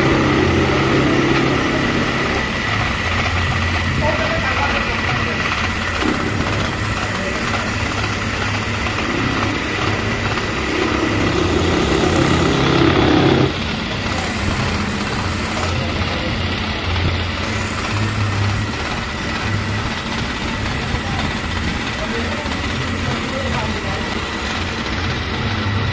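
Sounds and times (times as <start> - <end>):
metal lathe humming and whining: 0.0 - 25.9.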